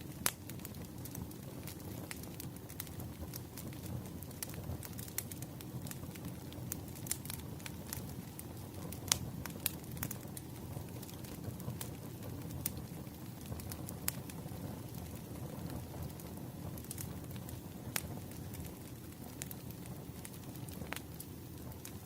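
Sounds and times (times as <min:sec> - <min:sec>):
firewood crackling and popping: 0:00.0 - 0:22.0
low steady rumble of fire: 0:00.0 - 0:22.0.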